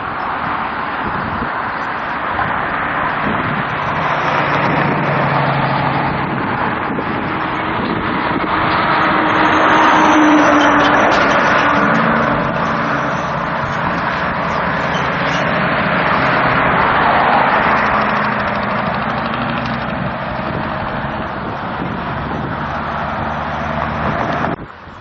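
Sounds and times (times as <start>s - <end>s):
loud rushing noise: 0.0s - 25.0s
vehicle engine running: 1.9s - 25.0s.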